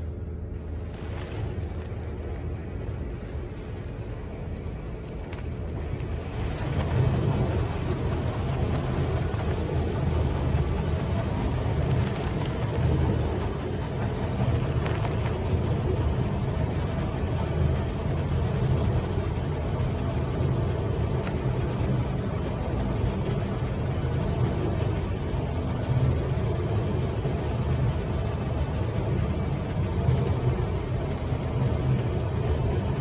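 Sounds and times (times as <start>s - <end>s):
wrapping machine rumbling: 0.0s - 33.0s.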